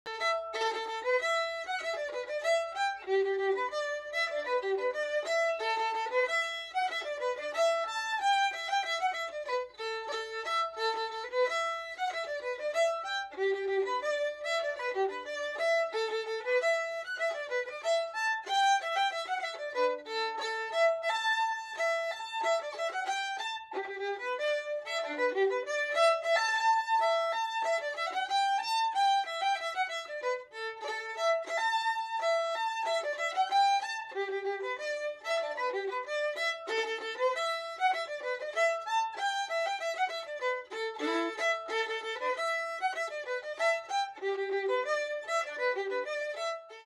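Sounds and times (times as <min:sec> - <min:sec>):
solo violin melody: 0:00.0 - 0:46.9.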